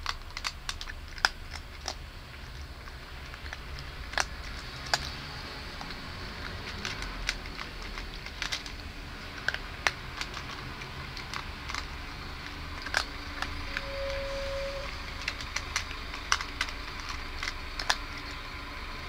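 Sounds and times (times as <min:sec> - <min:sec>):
big cat crunching food: 0:00.0 - 0:19.0.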